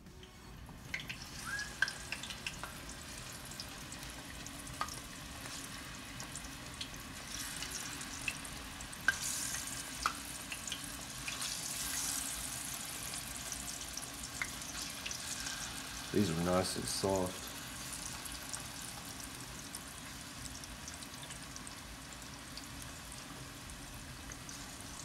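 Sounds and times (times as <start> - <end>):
plantains sizzling in frying pan: 0.7 - 25.0.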